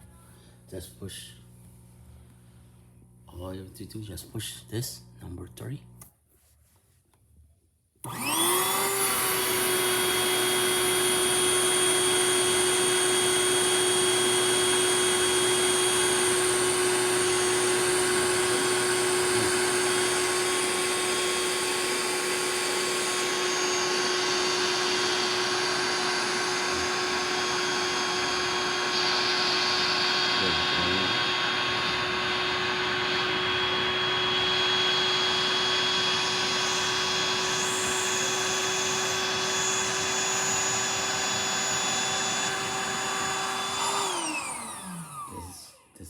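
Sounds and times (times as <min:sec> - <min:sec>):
electric air pump humming: 0:08.0 - 0:45.8.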